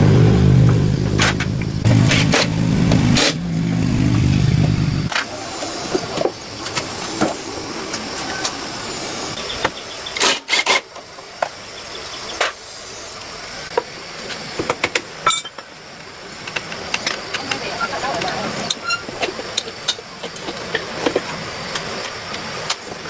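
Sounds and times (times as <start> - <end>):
steady hiss: 1.5 - 23.0.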